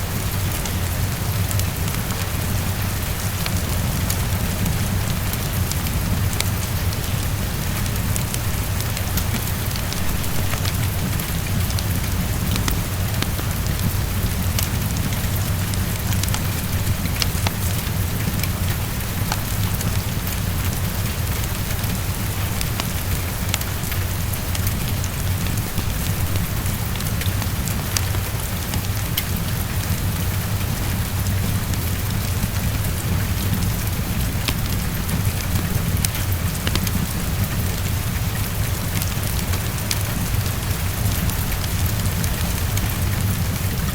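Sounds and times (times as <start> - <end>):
fireplace crackling: 0.0 - 29.4, 31.6 - 43.9
heavy rain against a window: 0.0 - 43.9.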